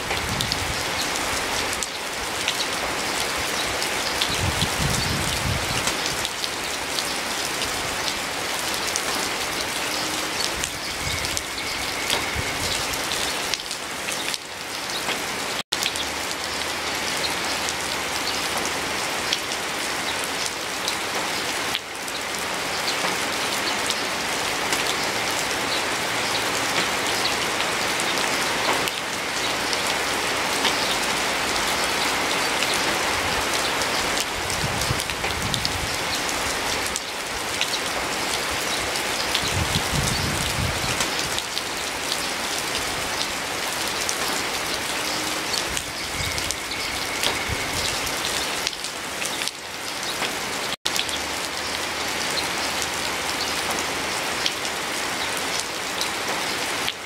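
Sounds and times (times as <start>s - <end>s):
rain falling on plants: 0.0s - 57.0s.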